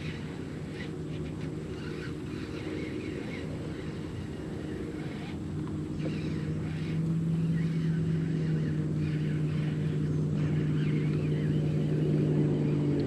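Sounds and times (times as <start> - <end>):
electric trolling motor humming: 0.0 - 13.0.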